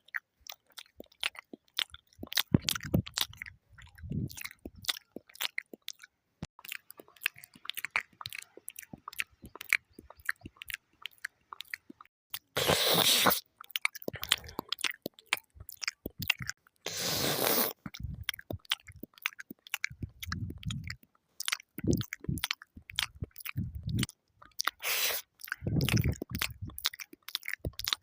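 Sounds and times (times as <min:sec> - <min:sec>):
clicky mouth sounds: 0:00.0 - 0:28.0
person chewing food: 0:00.0 - 0:28.0
crunchy bites: 0:00.1 - 0:28.0.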